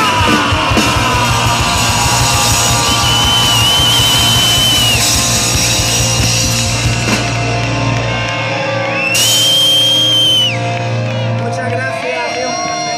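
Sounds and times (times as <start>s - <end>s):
heavy rock band playing: 0.0s - 12.9s.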